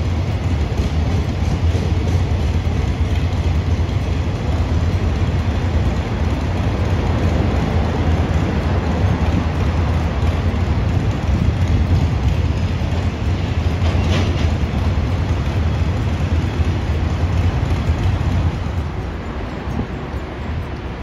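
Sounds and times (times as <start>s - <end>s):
train passing rumble: 0.0s - 21.0s.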